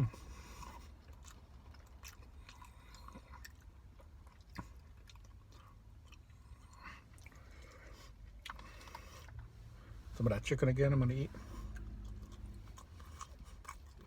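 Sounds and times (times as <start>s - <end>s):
faint chewing of rice: 0.0s - 10.2s, 11.3s - 14.0s.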